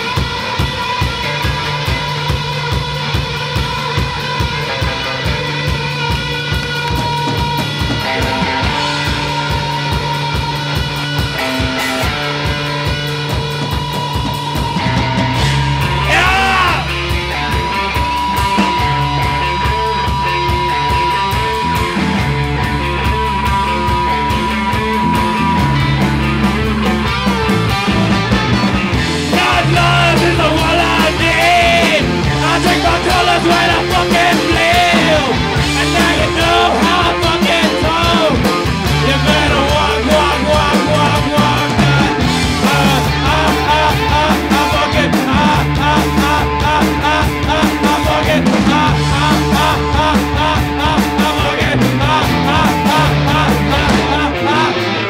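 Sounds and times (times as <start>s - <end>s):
distorted electric guitar: 0.0s - 55.0s
punk rock band playing: 0.0s - 55.0s.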